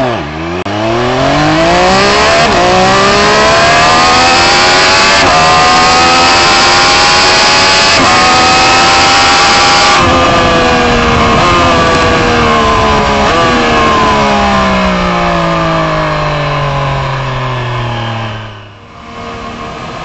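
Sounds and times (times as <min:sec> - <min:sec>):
motorcycle engine winding down: 0:00.0 - 0:20.0.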